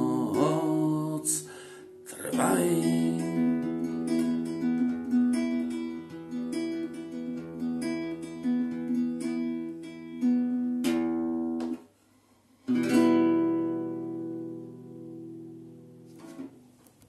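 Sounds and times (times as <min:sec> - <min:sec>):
strummed guitar chord: 0:00.0 - 0:11.8, 0:12.7 - 0:16.3
acoustic guitar fingerpicking: 0:00.0 - 0:12.0, 0:12.6 - 0:17.0.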